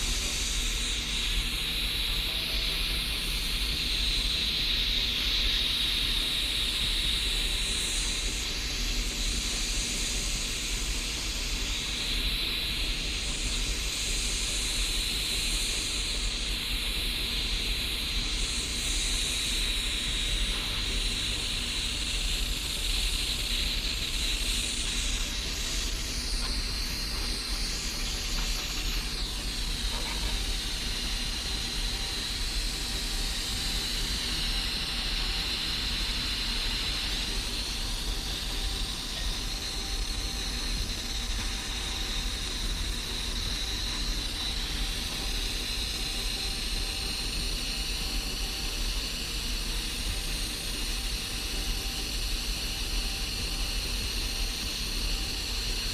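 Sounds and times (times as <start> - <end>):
blowtorch flame hissing: 0.0 - 55.9.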